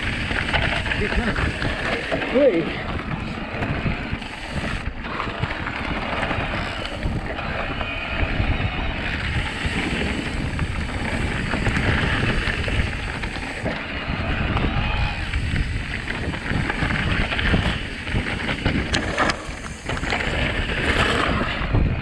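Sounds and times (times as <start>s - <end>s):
bike rattling over bumps: 0.0s - 22.0s
tyres rolling over rough ground: 0.0s - 22.0s
wind buffeting microphone: 0.0s - 22.0s.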